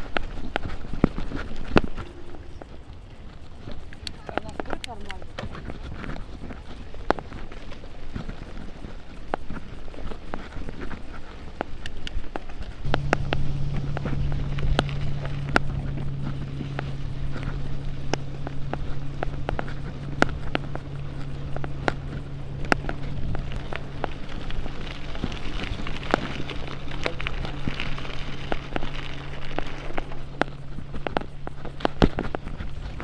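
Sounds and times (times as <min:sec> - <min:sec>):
bicycle tyre and wind rumble: 0:00.0 - 0:33.0
bike clicks and rattles over bumps: 0:00.0 - 0:33.0
low hum: 0:00.0 - 0:33.0.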